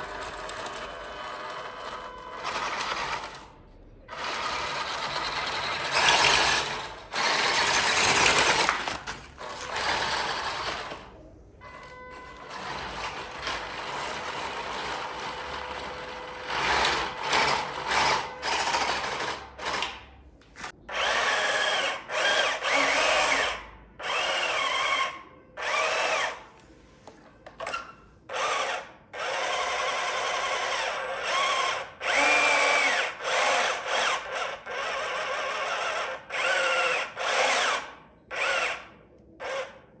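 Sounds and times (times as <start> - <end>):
small electric motors whining: 0.0 - 3.5, 4.1 - 19.9, 20.9 - 26.4, 27.6 - 39.8.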